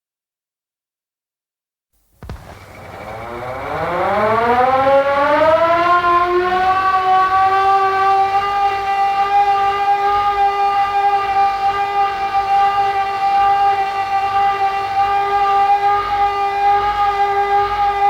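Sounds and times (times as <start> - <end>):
air raid siren winding up: 2.2 - 18.0.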